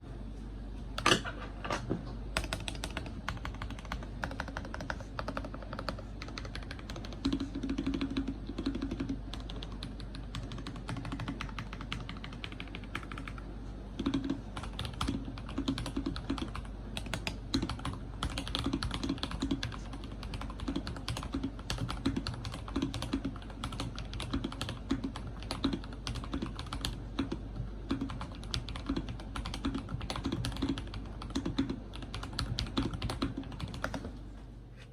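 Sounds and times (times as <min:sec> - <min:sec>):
mechanical keyboard typing: 0:02.4 - 0:13.4, 0:14.0 - 0:34.1.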